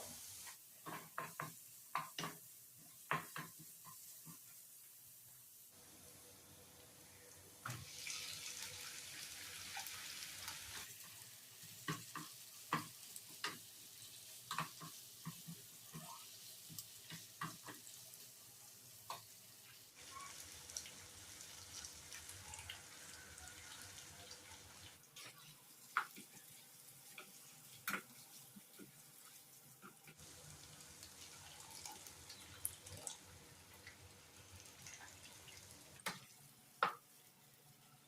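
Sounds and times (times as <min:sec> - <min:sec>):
curry sizzling in a pan: 0:00.0 - 0:06.2, 0:07.0 - 0:37.8.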